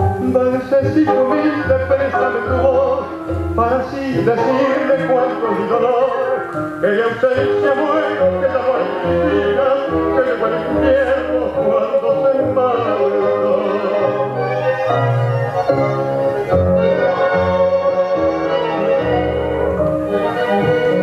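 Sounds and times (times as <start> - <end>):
person singing with vibrato: 0.0 - 21.0
tango waltz music: 0.0 - 21.0.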